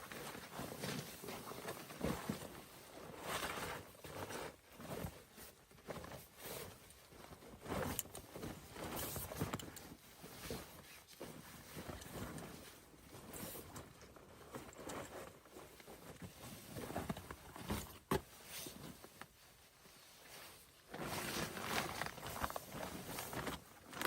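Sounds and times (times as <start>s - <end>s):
rustling and crunching handling: 0.0s - 24.0s.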